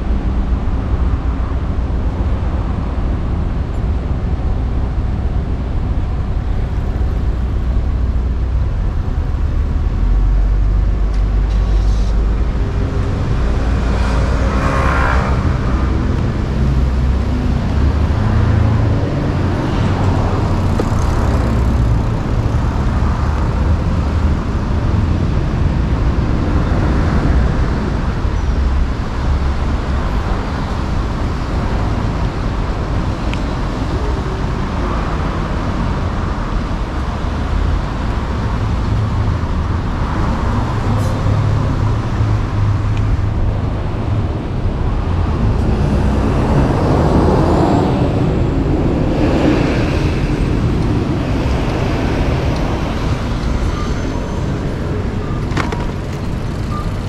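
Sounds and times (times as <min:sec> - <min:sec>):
rumble of passing cars: 0:00.0 - 0:57.0.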